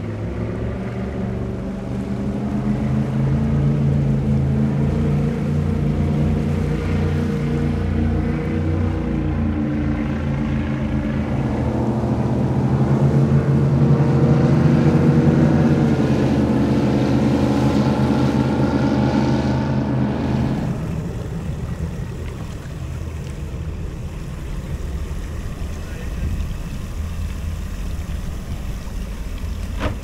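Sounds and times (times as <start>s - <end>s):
speedboat engine droning: 0.0s - 30.0s.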